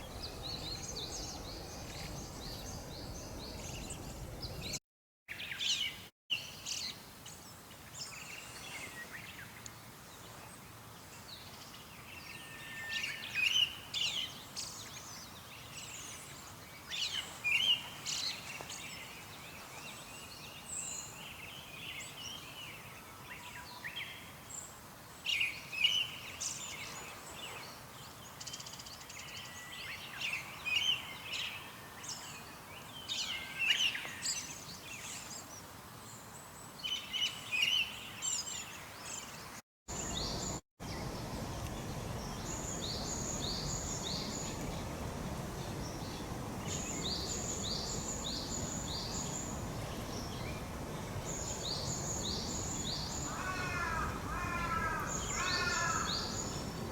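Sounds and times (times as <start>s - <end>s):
outdoor background noise: 0.0s - 56.9s.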